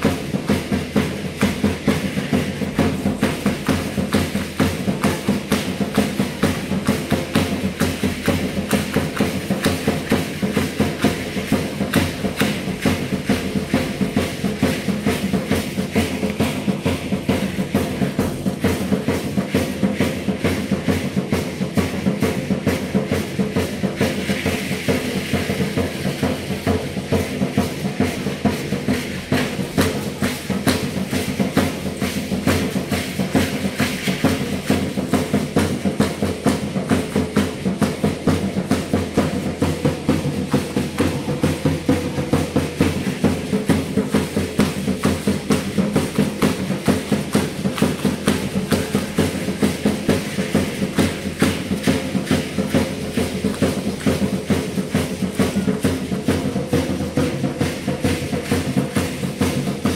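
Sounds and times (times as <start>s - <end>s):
drum-led dance music: 0.0s - 59.9s.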